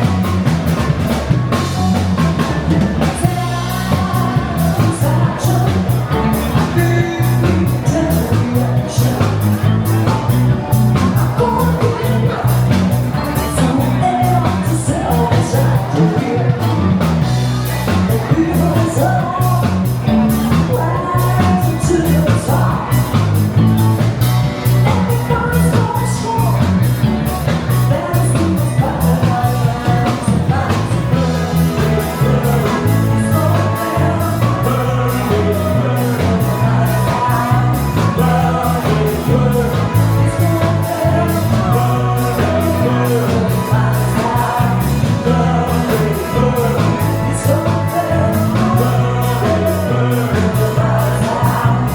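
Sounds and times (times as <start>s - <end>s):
rock and roll song with singer: 0.0s - 51.9s.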